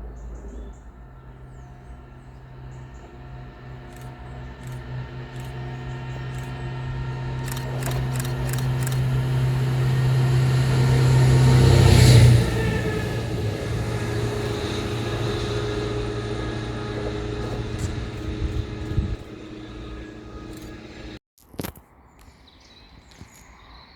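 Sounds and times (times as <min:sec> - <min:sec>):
train passing close by: 0:00.0 - 0:21.2.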